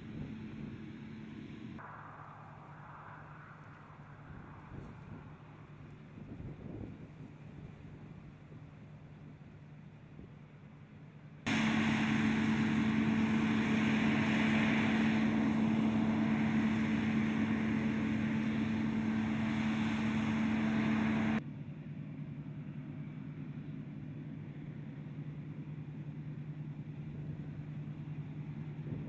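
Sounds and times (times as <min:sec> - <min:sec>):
combine harvester drone: 0:00.0 - 0:29.0
distant machine drone: 0:00.0 - 0:29.0.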